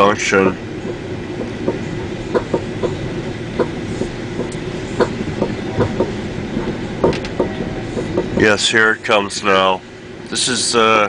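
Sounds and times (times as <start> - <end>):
train wheels rumbling on rails: 0.0 - 11.0
wheels clicking over rail joints: 0.0 - 11.0.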